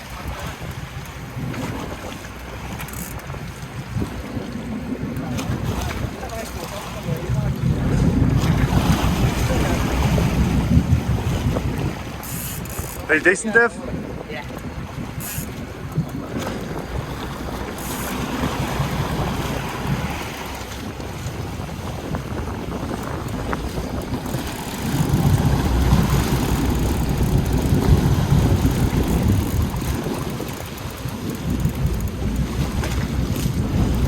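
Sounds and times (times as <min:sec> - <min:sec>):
boat engine rumble: 0:00.0 - 0:34.0
water noise: 0:00.0 - 0:34.0
wind buffeting microphone: 0:00.0 - 0:34.0.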